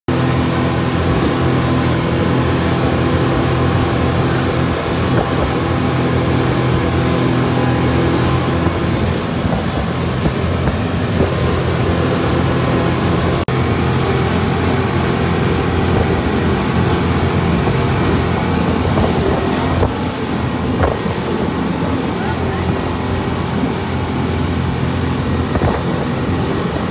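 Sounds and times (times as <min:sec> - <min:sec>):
churning wake water: 0:00.1 - 0:26.9
motorboat engine drone: 0:00.1 - 0:26.9
wind buffeting microphone: 0:00.1 - 0:26.9.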